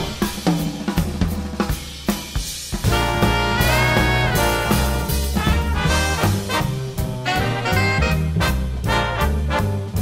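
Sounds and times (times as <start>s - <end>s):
swing music with brass: 0.0s - 10.0s.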